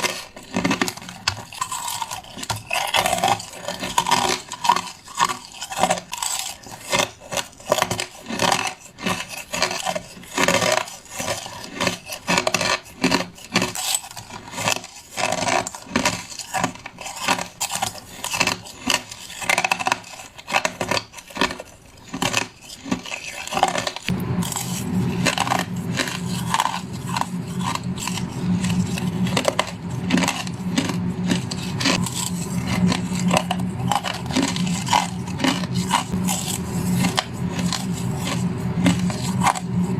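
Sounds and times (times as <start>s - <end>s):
steady low hum: 0.0s - 20.3s, 22.4s - 39.9s
person crunching ice: 0.0s - 39.9s.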